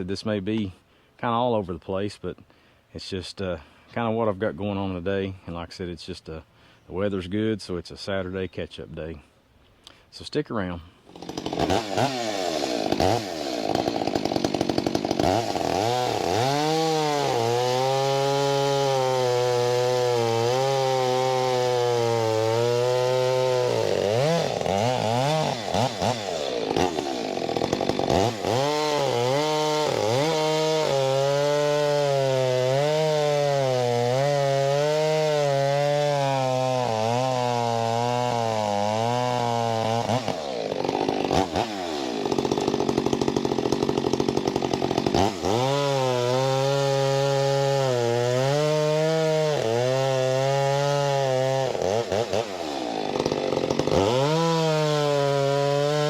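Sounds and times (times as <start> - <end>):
chainsaw cutting logs: 0.0 - 5.3, 10.6 - 56.0.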